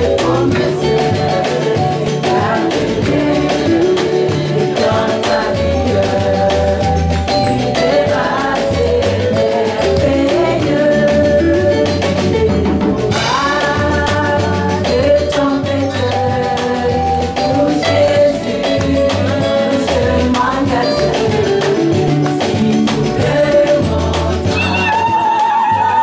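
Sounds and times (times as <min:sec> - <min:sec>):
bass and percussion accompaniment: 0:00.0 - 0:26.0
woman singing into microphone: 0:00.0 - 0:26.0.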